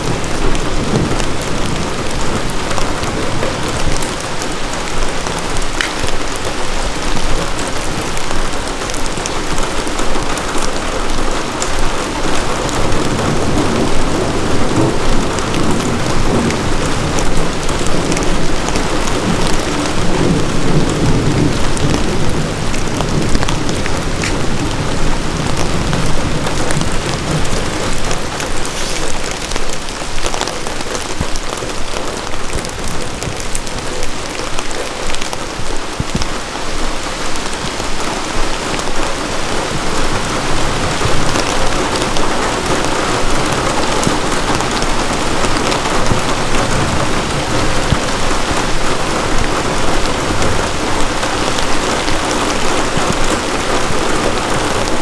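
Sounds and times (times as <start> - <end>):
steady rain through trees: 0.0 - 55.0.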